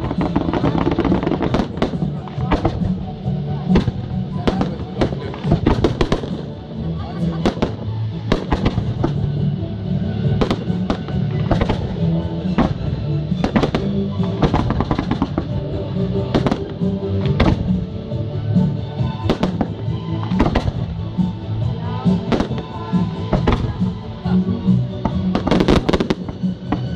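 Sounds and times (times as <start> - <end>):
fireworks bangs: 0.0 - 9.5, 10.3 - 18.0, 19.0 - 24.0, 25.0 - 26.9
music with long held notes: 0.0 - 26.9.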